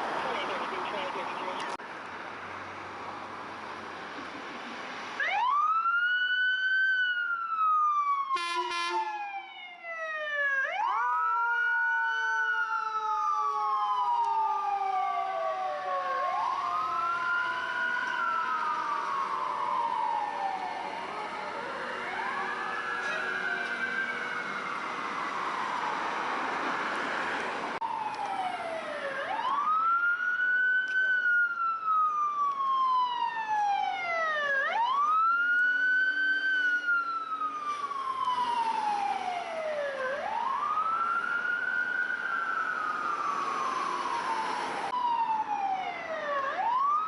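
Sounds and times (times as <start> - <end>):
rushing vehicle noise: 0.0 - 6.2, 10.8 - 47.0
emergency vehicle siren wailing: 3.7 - 47.0.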